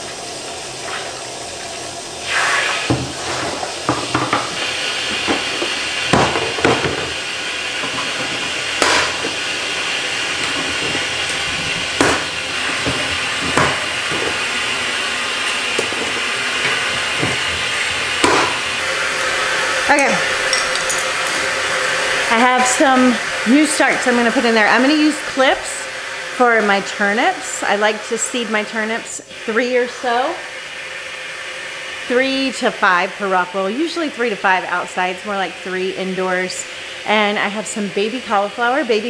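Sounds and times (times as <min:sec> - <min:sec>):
water hissing: 0:00.0 - 0:38.4.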